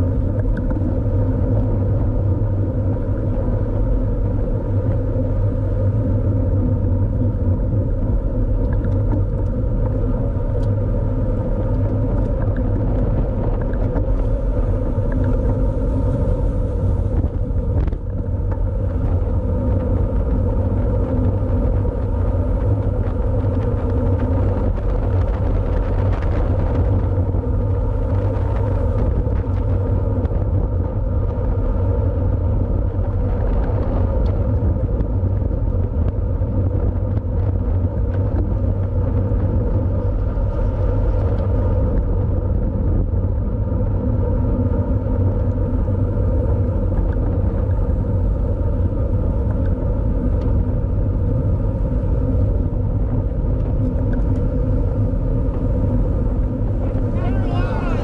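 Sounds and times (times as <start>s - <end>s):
constant hum: 0.0s - 58.0s
wind rumble on microphone: 0.0s - 58.0s.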